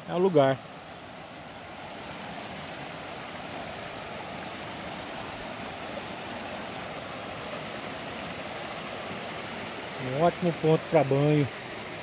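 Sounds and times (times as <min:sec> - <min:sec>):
river water running over rocks: 0:00.0 - 0:12.0.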